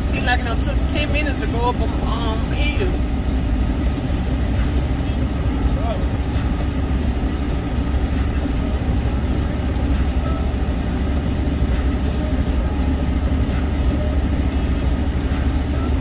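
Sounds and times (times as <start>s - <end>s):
vehicle road and engine rumble: 0.0s - 16.0s.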